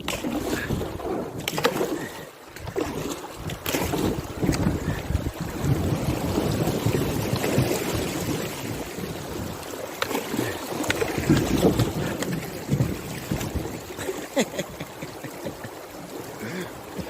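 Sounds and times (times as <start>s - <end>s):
river water rushing and splashing: 0.0s - 17.0s.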